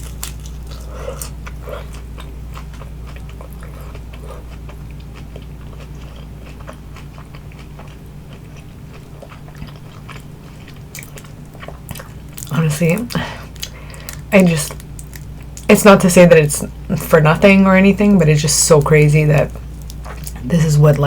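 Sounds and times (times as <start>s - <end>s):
chewing crispy food: 0.0s - 15.7s, 18.7s - 21.0s
low steady hum: 0.0s - 21.0s.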